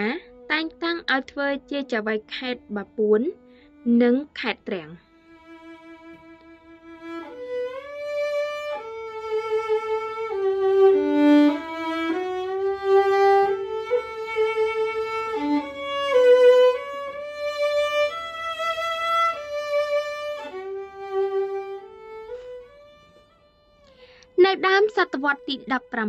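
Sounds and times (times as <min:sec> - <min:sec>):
slow bowed string melody: 0:00.0 - 0:26.0.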